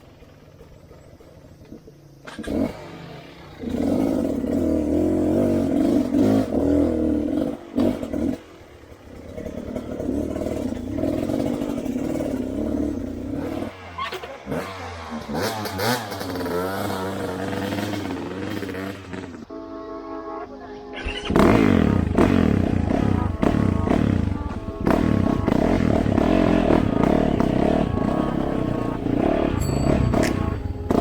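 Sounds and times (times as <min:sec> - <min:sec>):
motorcycle engine revving: 0:00.0 - 0:19.6, 0:21.0 - 0:31.0.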